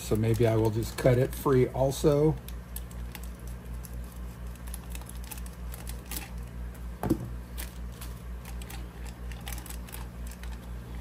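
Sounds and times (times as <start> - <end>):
plastic bag crinkling: 0.0 - 6.8, 7.4 - 11.0
steady low hum: 0.0 - 11.0.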